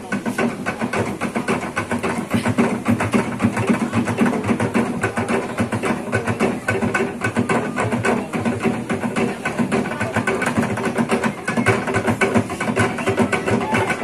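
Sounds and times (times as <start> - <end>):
slit-log drums beaten fast: 0.0 - 14.0.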